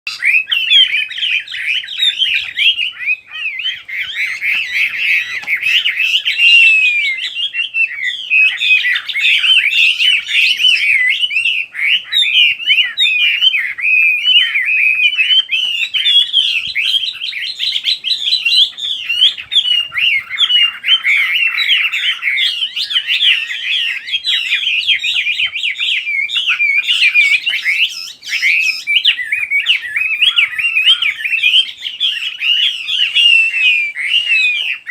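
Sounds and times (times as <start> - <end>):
songbird twittering: 0.1 - 34.9.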